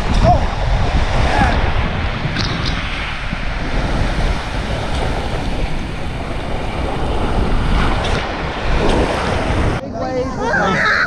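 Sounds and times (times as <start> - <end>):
water rushing and splashing: 0.0 - 10.9
wind buffeting microphone: 0.0 - 11.0.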